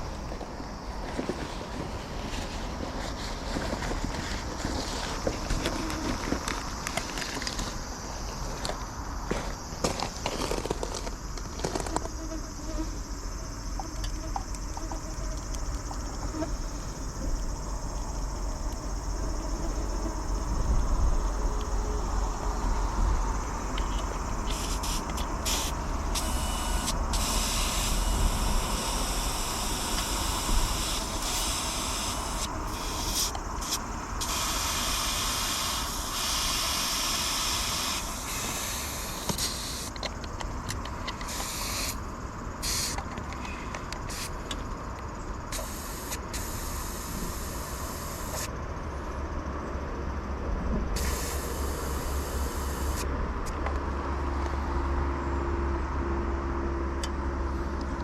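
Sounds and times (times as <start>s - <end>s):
wind and tyre noise: 0.0s - 58.0s.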